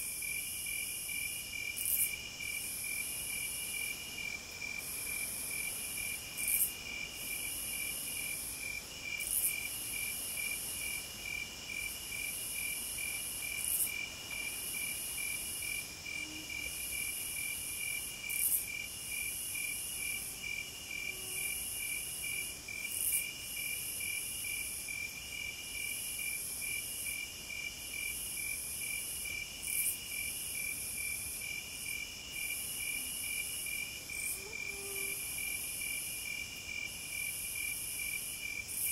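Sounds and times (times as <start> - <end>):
high insect trill: 0.0 - 38.9
insects chirping: 0.0 - 38.9.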